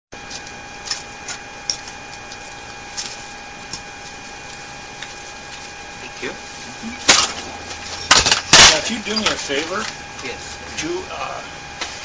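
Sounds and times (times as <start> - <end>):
steady whine and hiss: 0.2 - 12.0.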